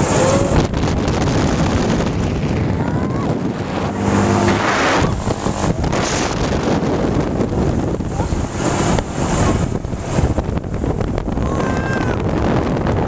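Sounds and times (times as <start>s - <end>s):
thrill ride rumble: 0.0s - 13.0s
wind on microphone: 0.0s - 13.0s.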